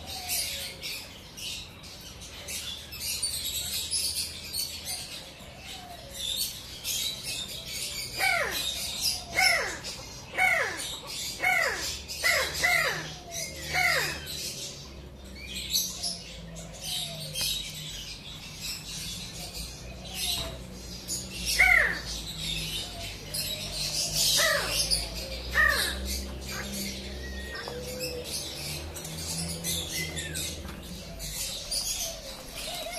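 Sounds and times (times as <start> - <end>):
birds chirping and squawking: 0.0 - 32.9.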